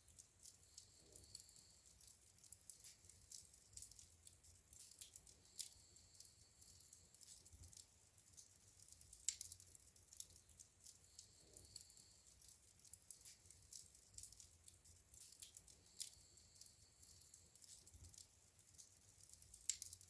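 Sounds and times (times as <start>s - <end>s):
wood fire crackling and popping: 0.1s - 20.0s.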